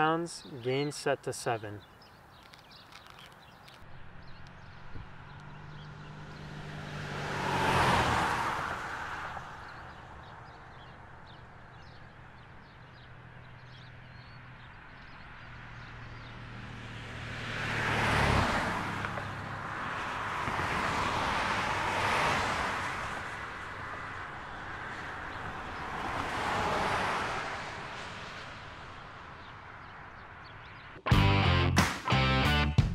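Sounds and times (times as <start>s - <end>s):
cars passing: 0.0s - 31.6s.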